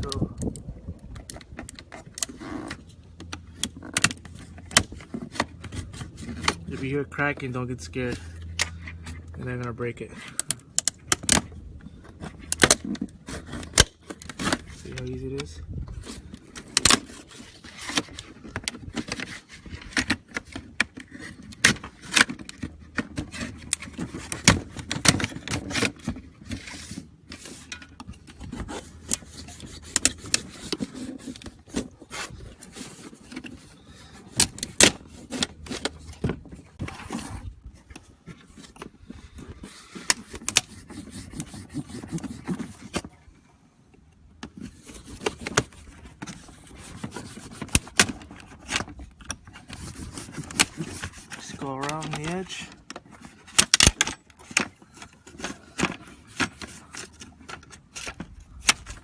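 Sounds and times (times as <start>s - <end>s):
tool scraping plastic: 1.1s - 43.3s, 44.4s - 59.0s.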